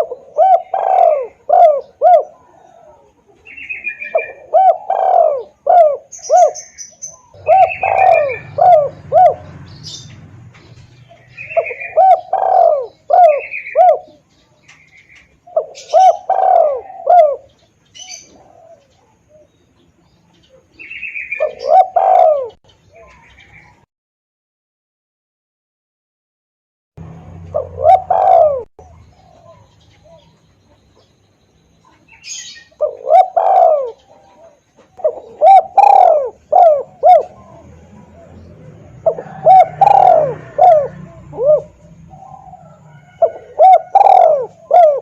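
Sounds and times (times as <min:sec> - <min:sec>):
dove cooing: 0:00.0 - 0:19.5, 0:20.4 - 0:23.7, 0:27.4 - 0:30.4, 0:31.9 - 0:45.0.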